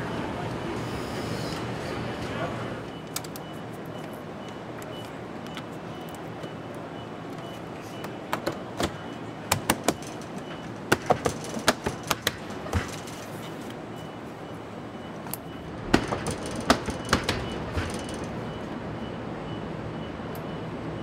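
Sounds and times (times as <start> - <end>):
factory hum: 0.0 - 21.0.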